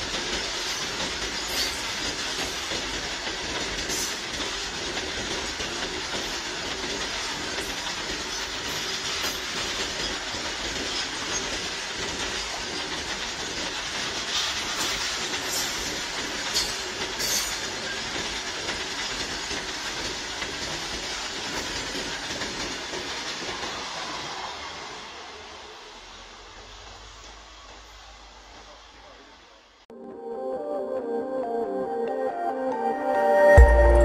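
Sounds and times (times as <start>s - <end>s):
freight train wheels on rails: 0.0s - 29.9s.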